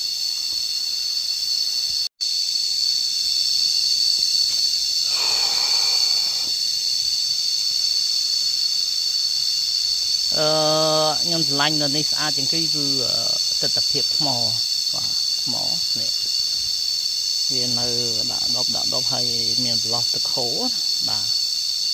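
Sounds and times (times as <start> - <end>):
cicadas singing: 0.0 - 21.9.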